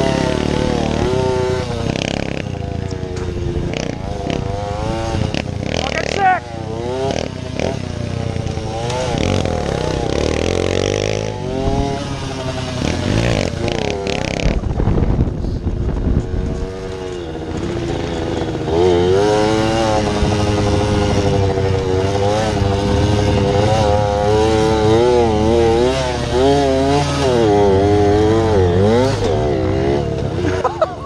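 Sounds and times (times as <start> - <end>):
mini bike engine revving: 0.0 - 31.0.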